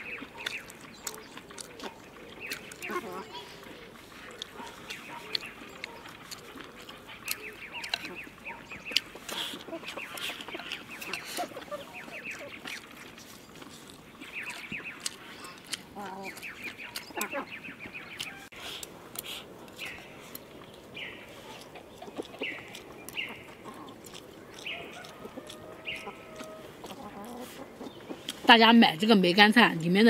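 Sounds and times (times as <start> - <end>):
chewing: 0.0 - 28.8
birds chattering: 0.0 - 30.0.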